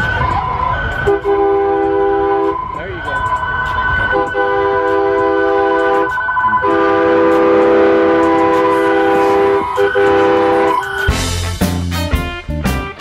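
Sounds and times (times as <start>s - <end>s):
train-style air horn blasts: 0.1s - 12.2s.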